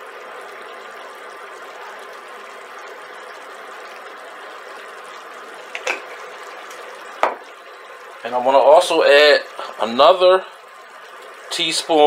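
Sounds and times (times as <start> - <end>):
sauce simmering with bubbling hiss: 0.0 - 12.0.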